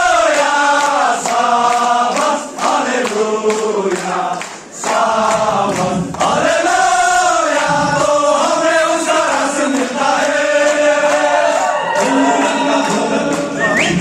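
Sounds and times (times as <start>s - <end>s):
group of voices singing: 0.0s - 14.0s.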